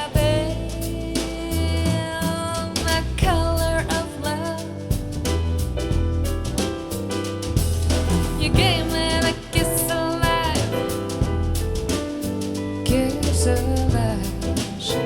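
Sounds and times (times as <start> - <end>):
soul jazz music: 0.0 - 15.0.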